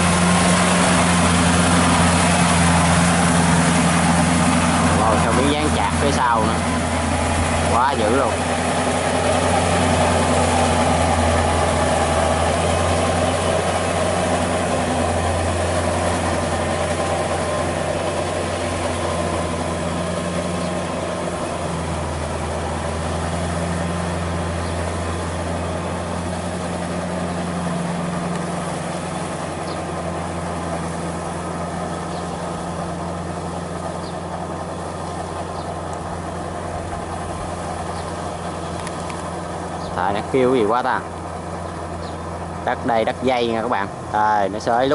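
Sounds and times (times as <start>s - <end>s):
tractor diesel engine running: 0.0s - 44.9s
wheels churning through mud: 0.0s - 44.9s.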